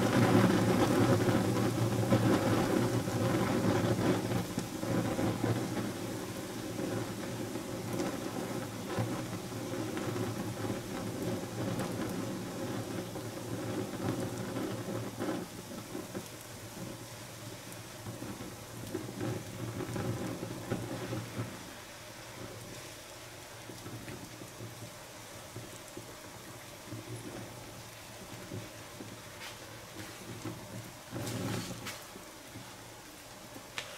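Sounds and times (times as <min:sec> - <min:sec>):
flames rushing: 0:00.0 - 0:33.9.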